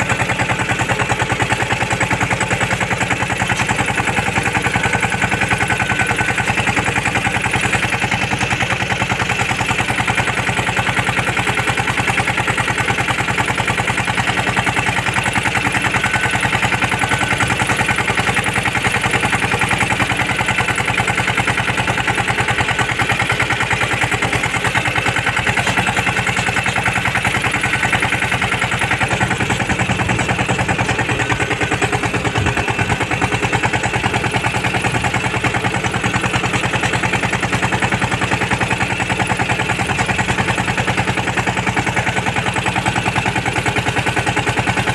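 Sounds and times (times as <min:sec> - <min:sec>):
tractor diesel engine clatter: 0:00.0 - 0:44.9.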